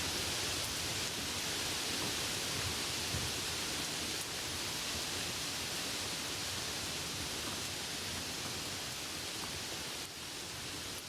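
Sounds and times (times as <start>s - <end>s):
wind rumbling on microphone: 0.0s - 10.0s
outdoor hiss: 0.0s - 11.0s.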